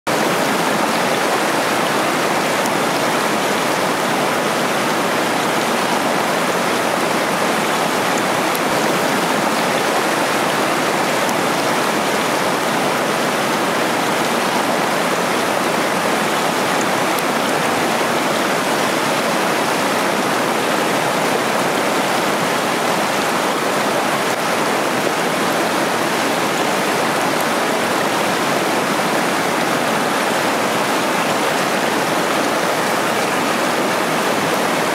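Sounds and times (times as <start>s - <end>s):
water rushing over rocks: 0.1s - 34.9s.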